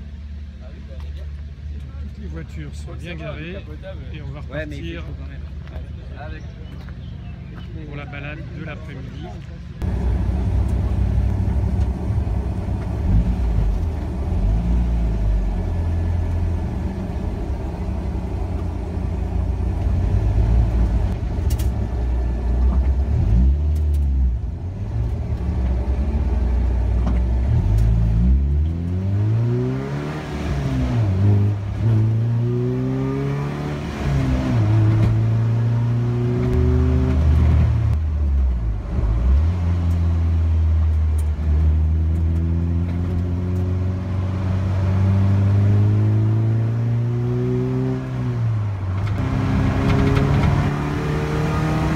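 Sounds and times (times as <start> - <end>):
car engine accelerating: 9.8 - 51.9.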